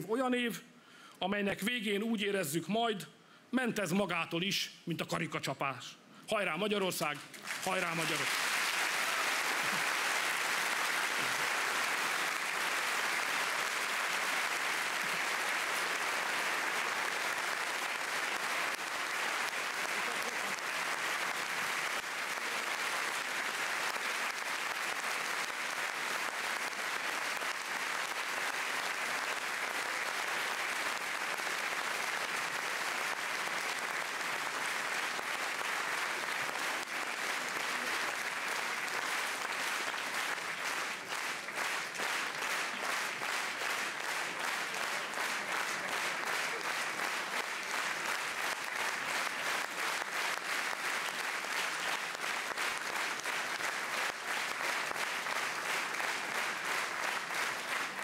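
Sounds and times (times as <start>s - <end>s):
audience applauding: 7.2s - 58.0s.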